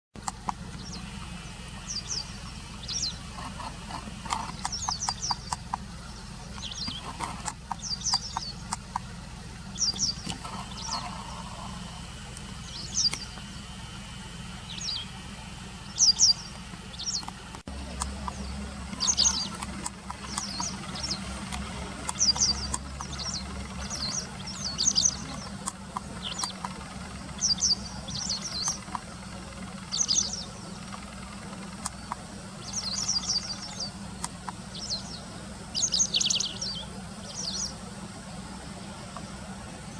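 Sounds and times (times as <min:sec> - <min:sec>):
small birds chirping: 0:00.2 - 0:39.9
steady low hum: 0:00.2 - 0:39.9.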